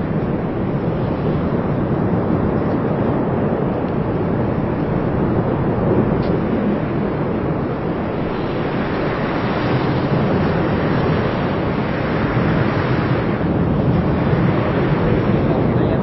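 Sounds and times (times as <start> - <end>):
volcano rumbling: 0.0 - 16.0.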